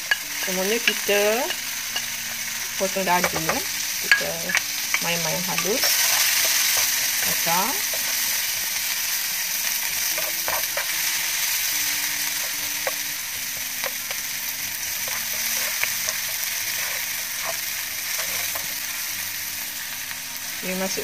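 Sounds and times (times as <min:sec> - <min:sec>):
spatula stirring and scraping: 0:00.0 - 0:19.1
onion and garlic sizzling in butter: 0:00.0 - 0:21.0.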